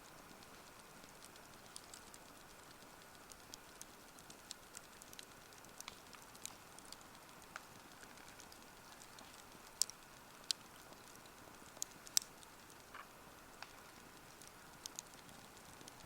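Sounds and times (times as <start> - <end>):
faint steady hiss: 0.0 - 16.0
wood fire crackling: 0.0 - 16.0.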